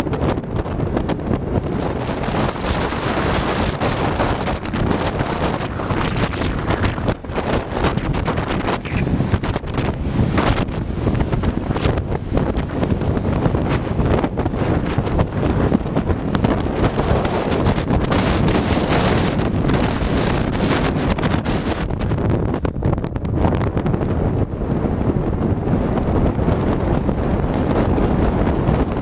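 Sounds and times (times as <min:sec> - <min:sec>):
lake surf: 0:00.0 - 0:29.0
wind buffeting microphone: 0:00.0 - 0:29.0.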